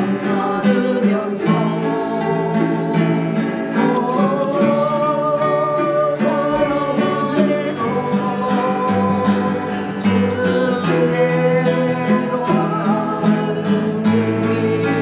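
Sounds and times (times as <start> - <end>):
guitar and harp playing hymn: 0.0 - 15.0.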